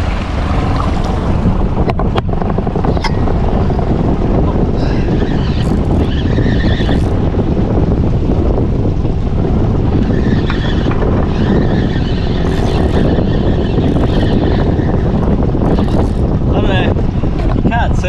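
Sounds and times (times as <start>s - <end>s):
boat motor running: 0.0s - 18.0s
wind rumbling on microphone: 0.0s - 18.0s.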